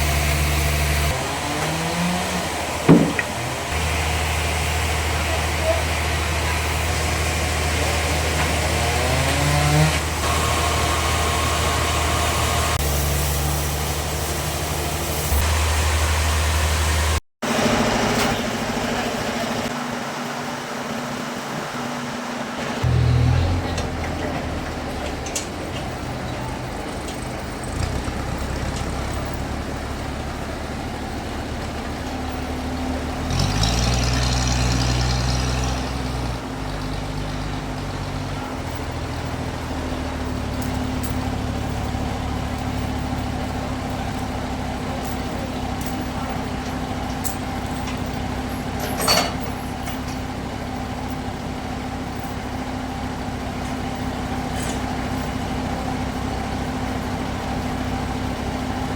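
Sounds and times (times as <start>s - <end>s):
sawmill machinery drone: 0.0s - 58.9s.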